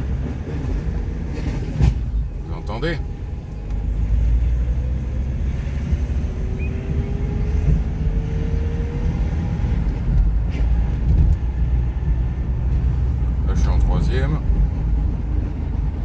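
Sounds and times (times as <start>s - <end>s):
car engine rumble in cabin: 0.0s - 16.0s.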